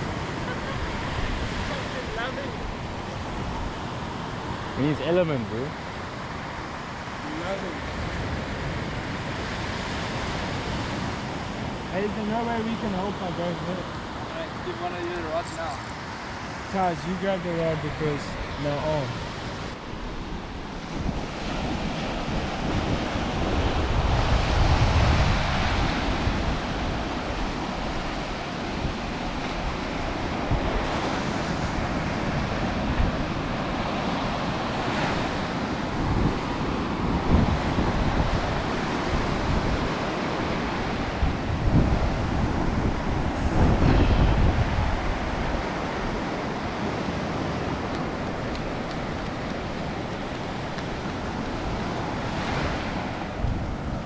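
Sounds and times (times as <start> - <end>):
ocean surf washing onto beach: 0.0 - 54.0
wind buffeting microphone: 0.0 - 54.0.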